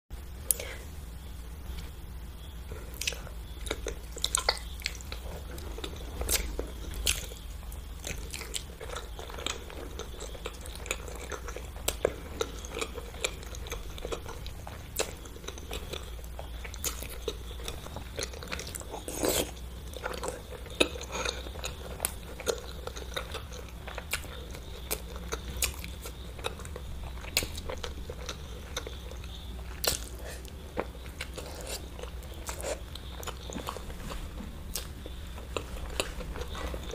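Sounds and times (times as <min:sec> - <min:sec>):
wet chewing: 0:02.9 - 0:36.9.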